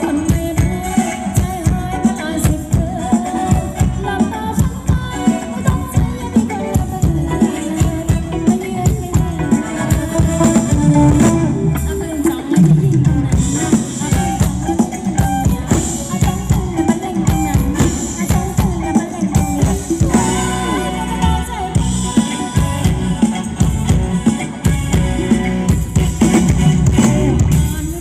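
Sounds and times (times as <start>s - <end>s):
person singing: 0.0s - 24.7s
drum kit beat: 0.0s - 28.0s.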